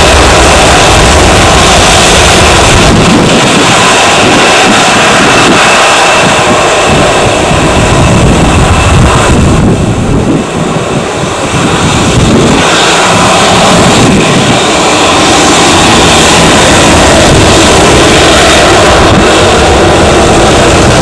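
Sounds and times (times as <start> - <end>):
jet engines roaring: 0.0 - 21.0
wind buffeting microphone: 0.0 - 21.0.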